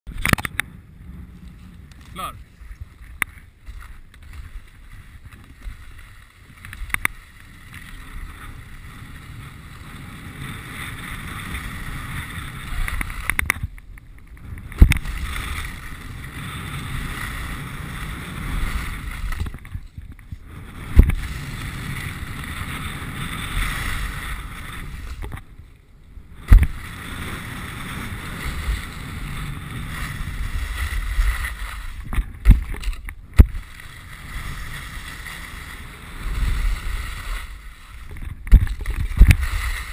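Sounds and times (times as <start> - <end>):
skis scraping over packed snow: 0.1 - 39.9
wind on microphone: 0.1 - 39.9.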